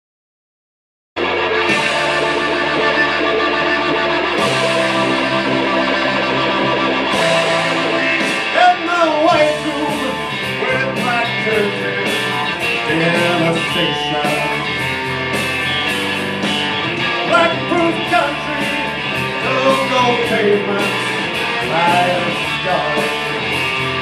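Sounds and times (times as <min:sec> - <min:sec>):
electric guitar with bending notes: 0:01.2 - 0:24.0
live rock music: 0:01.2 - 0:24.0.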